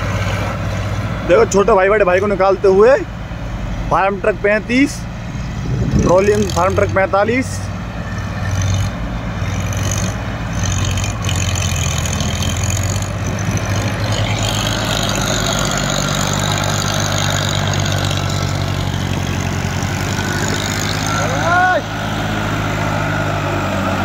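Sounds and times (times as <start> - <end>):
tractor diesel engines under load: 0.0 - 24.0.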